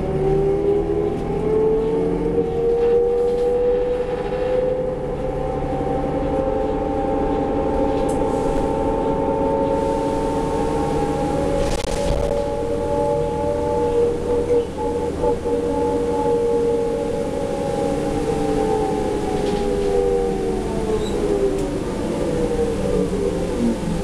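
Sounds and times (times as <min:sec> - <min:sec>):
bus drivetrain whine: 0:00.0 - 0:24.0
low engine rumble: 0:00.0 - 0:24.0.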